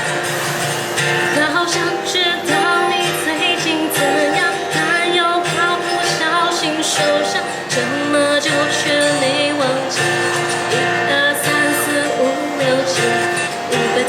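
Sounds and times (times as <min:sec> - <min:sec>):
pop song with singing: 0:01.2 - 0:14.0.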